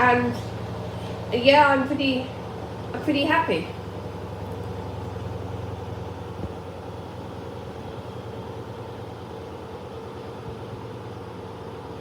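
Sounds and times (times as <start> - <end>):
washing machine drum spinning: 0.0 - 9.6.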